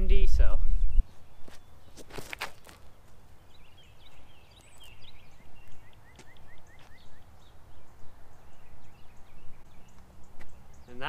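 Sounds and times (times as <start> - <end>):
birds chirping and singing: 0.6 - 11.0.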